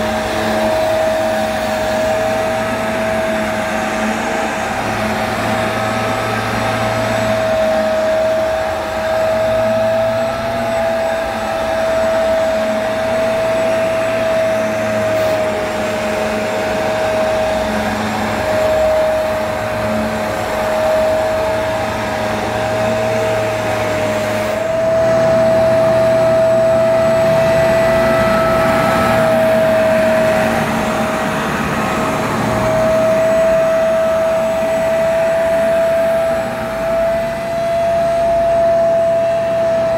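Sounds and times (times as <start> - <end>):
carpet washer motor whine: 0.0 - 39.9
rushing suction noise: 0.0 - 39.9.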